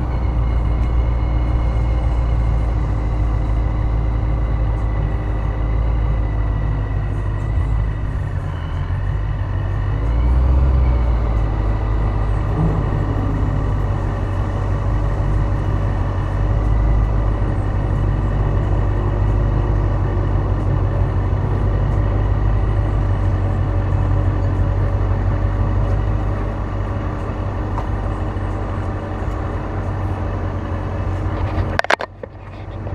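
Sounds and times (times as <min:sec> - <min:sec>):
car engine deep rumble: 0:00.0 - 0:32.9.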